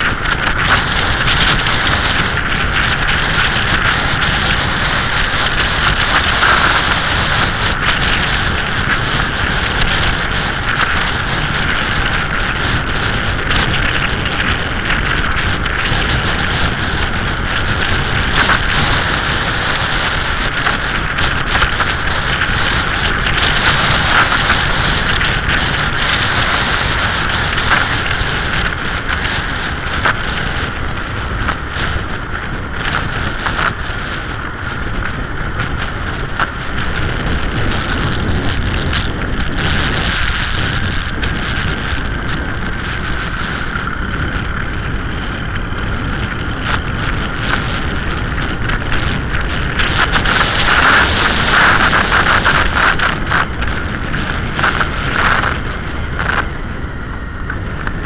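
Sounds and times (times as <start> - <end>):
microphone crackles: 0.0 - 58.0
motorcycle engine running: 0.0 - 58.0
wind buffeting microphone: 0.0 - 58.0.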